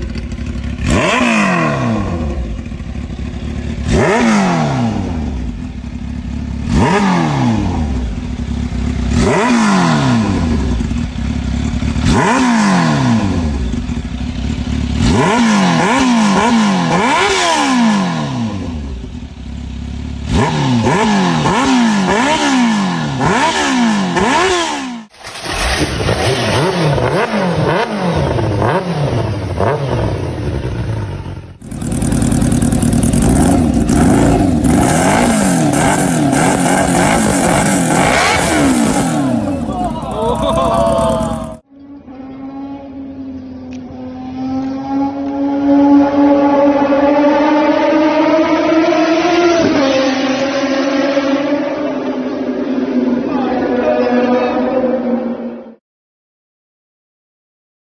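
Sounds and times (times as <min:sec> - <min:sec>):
motorcycle engine revving: 0:00.0 - 0:55.6.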